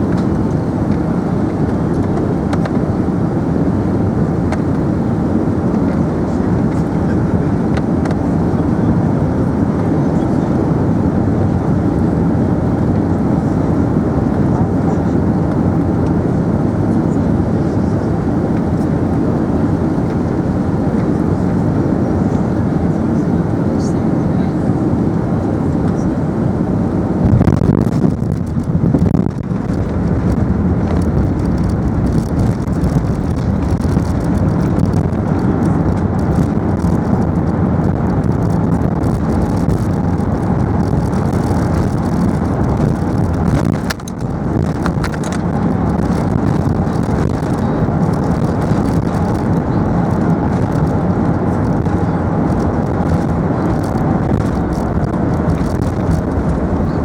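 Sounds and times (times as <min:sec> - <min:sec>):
aircraft cabin rumble: 0:00.0 - 0:57.0.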